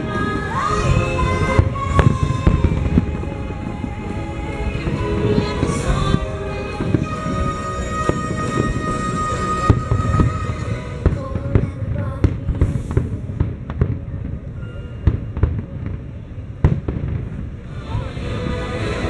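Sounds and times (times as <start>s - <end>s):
faint music: 0.0s - 19.0s.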